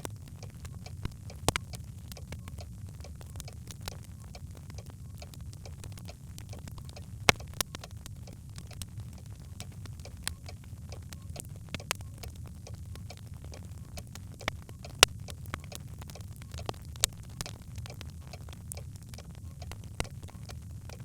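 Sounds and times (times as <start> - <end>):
low rumble of fire: 0.0 - 21.0.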